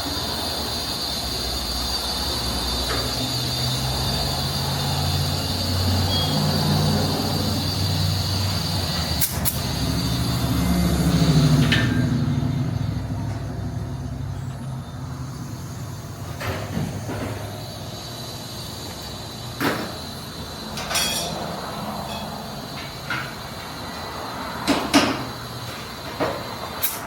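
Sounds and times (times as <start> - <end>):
vehicle engine running: 0.0 - 26.7.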